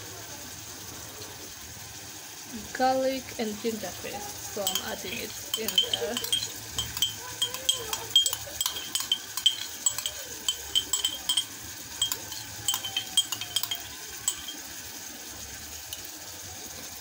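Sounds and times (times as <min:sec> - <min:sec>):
food sizzling in a pot: 0:00.0 - 0:17.0
crackling pops of frying: 0:01.9 - 0:17.0.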